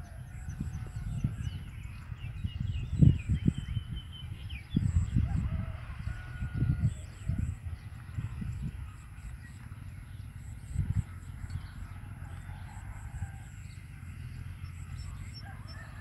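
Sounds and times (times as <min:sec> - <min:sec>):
small birds chirping: 0:00.0 - 0:16.0
uneven low rumble: 0:00.0 - 0:16.0.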